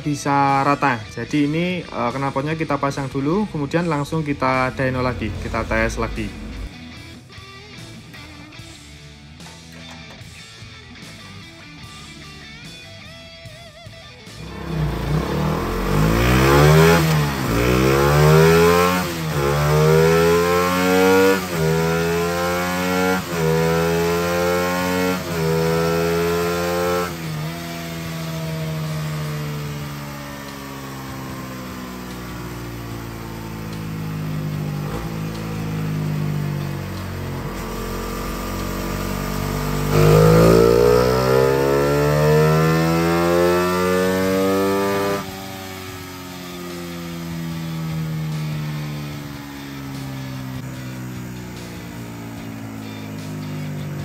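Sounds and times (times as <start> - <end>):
motorcycle engine revving: 2.1 - 7.1, 14.2 - 54.0.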